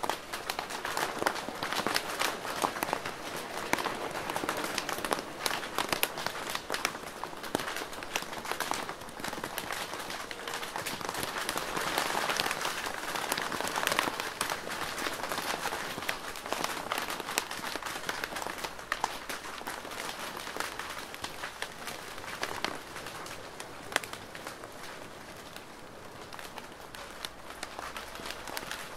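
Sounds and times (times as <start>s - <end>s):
rain on a plastic roof: 0.0s - 28.9s.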